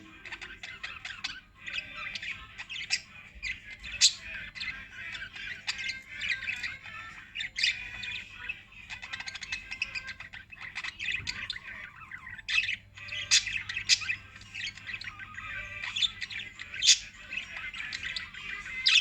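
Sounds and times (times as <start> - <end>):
lovebirds chattering: 0.0 - 19.0.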